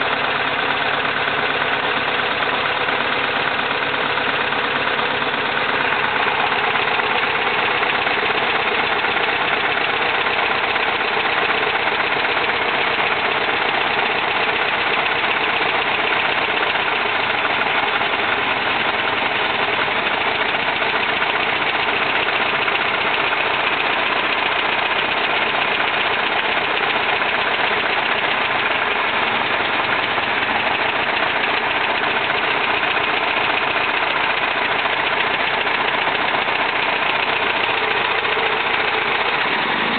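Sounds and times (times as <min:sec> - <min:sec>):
car engine idling with misfire: 0:00.0 - 0:39.9.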